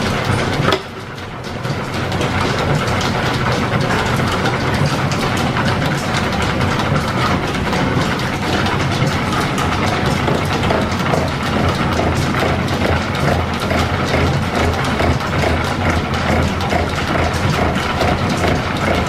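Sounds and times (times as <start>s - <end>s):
belt-driven machinery clattering: 0.0s - 19.0s.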